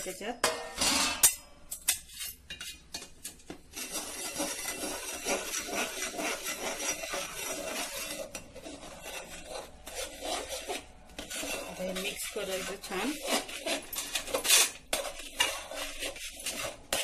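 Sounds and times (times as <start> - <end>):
utensil scraping steel pot: 0.0 - 17.0.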